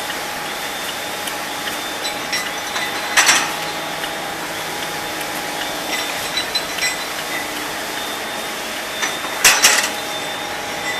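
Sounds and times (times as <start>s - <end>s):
disc grinder grinding: 0.0s - 10.9s.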